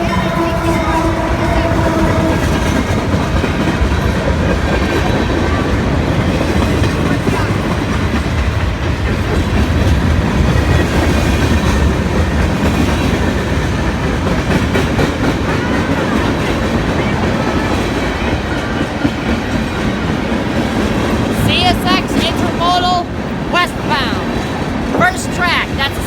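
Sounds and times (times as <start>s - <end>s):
freight train wheels on rails: 0.0s - 26.0s.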